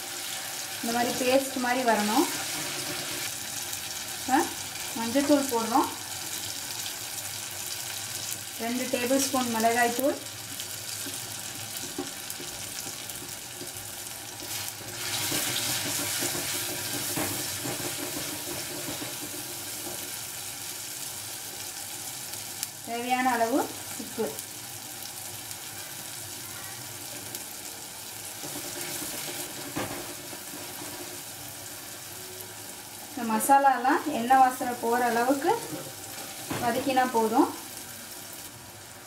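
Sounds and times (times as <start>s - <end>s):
masala sizzling in oil: 0.0s - 39.0s.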